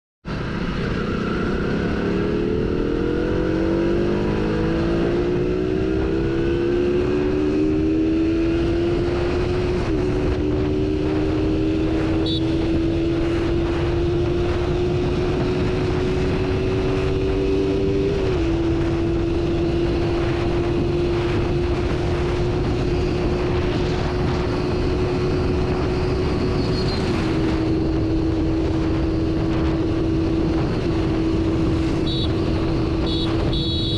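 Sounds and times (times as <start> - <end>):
wind and road noise: 0.2 - 33.9
motorcycle engine running: 1.5 - 33.9.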